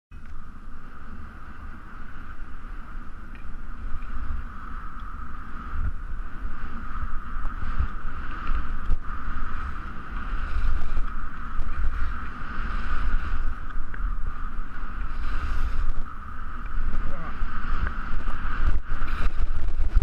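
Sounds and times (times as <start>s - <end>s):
wind buffeting microphone: 0.1s - 20.0s
skis running over snow: 0.5s - 20.0s.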